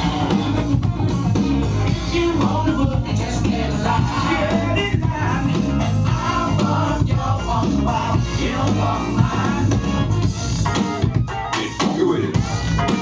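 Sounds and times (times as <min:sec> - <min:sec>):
funk music with singing: 0:00.0 - 0:13.0
heavy bass line: 0:00.0 - 0:13.0.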